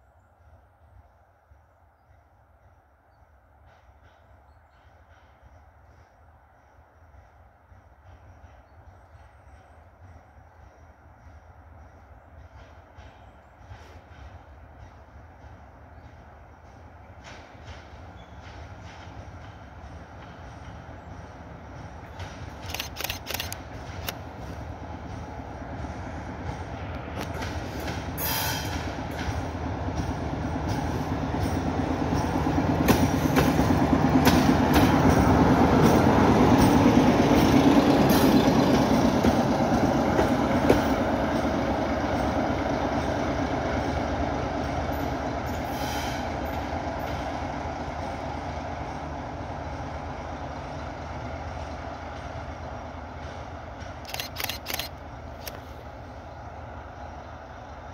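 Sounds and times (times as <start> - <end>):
diesel locomotive engine drone: 0.0 - 57.9.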